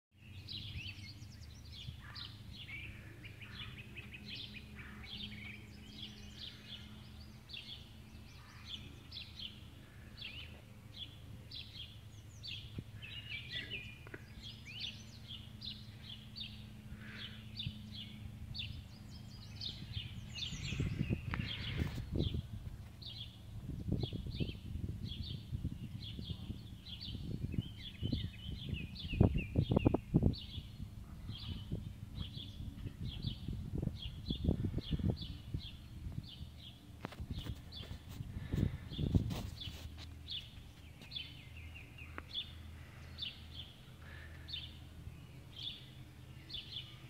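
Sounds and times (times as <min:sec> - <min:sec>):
small birds chirping: 0:00.1 - 0:47.0
steady low hum: 0:00.2 - 0:47.0.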